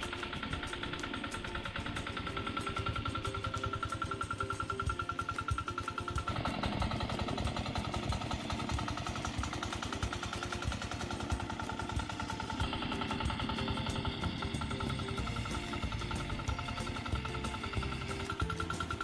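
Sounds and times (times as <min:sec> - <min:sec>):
small diesel engine knocking: 0:00.0 - 0:19.0.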